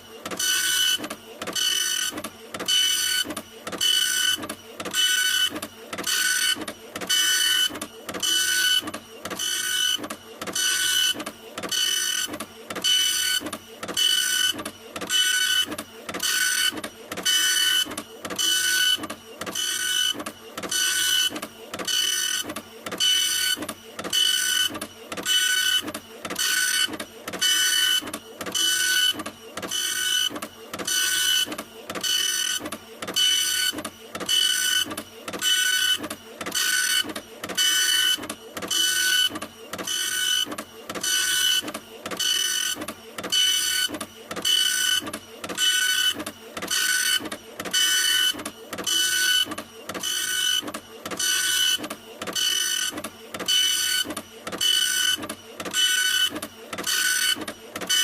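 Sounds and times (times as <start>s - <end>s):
printer head whirring: 0.0s - 58.0s.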